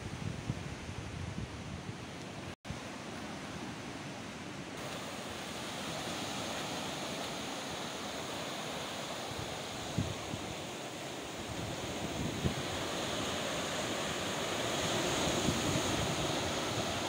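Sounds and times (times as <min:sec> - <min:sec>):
wind on microphone: 0:00.0 - 0:02.8, 0:04.8 - 0:17.0
surf washing onto beach: 0:00.0 - 0:17.0.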